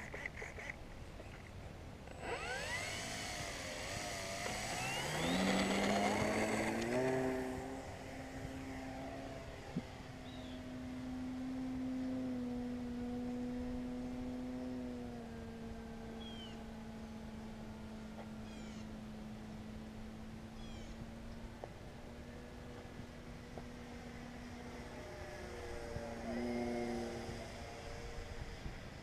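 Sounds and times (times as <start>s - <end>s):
model airplane motor whine: 2.0s - 29.0s.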